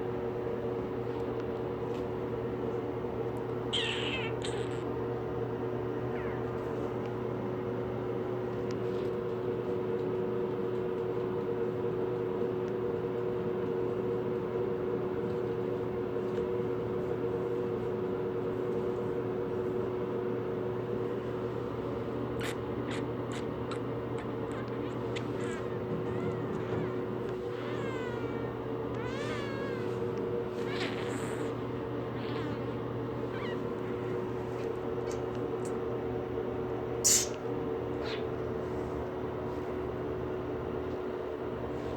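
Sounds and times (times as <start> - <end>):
appliance humming: 0.0 - 41.9.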